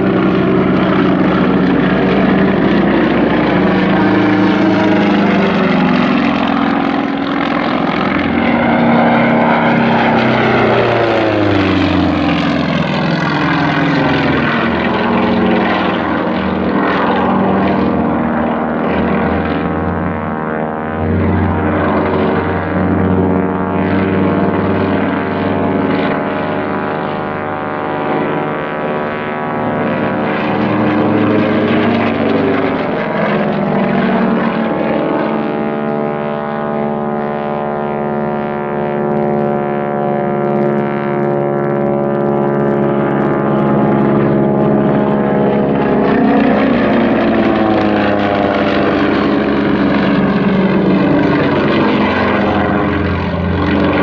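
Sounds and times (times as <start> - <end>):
propeller plane engine overhead: 0.0 - 54.0.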